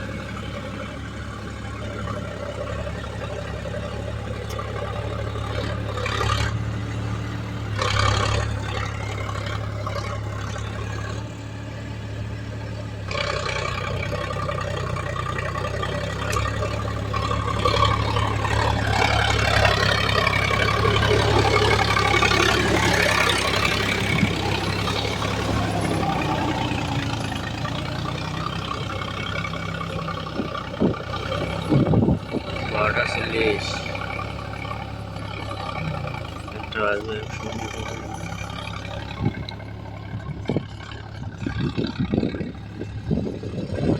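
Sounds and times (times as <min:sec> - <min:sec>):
heavy diesel engine working: 0:00.0 - 0:43.9.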